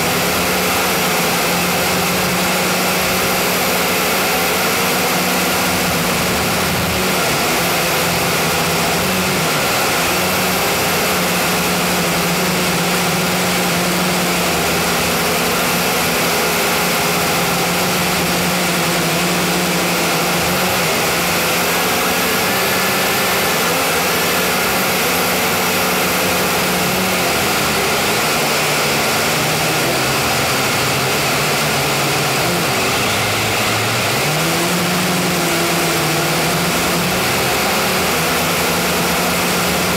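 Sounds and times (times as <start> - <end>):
quadcopter propellers whirring: 0.0 - 39.9.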